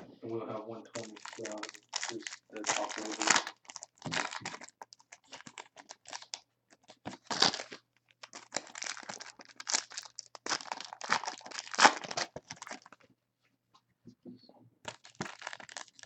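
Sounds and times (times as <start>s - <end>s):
plastic packaging crinkling: 0.8s - 13.1s, 14.8s - 16.0s.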